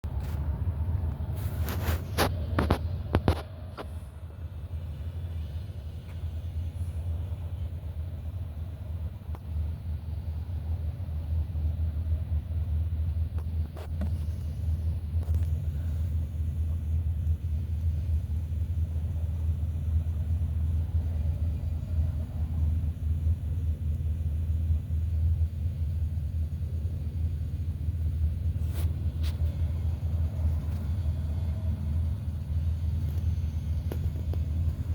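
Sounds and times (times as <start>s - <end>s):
bus engine low rumble: 0.0s - 34.9s.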